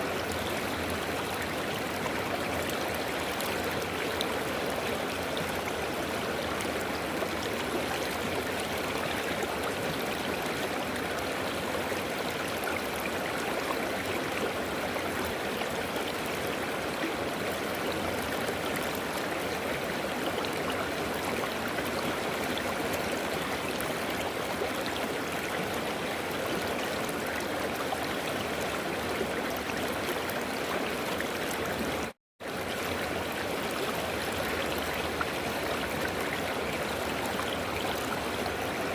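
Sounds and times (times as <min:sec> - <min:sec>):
river water rushing and gurgling: 0:00.0 - 0:38.9.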